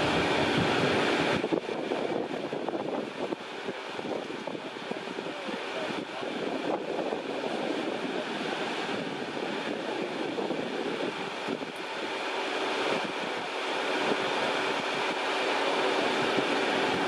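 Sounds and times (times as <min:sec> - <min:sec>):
faint steady whine: 0:00.0 - 0:17.0
jet engines rushing: 0:00.0 - 0:17.0.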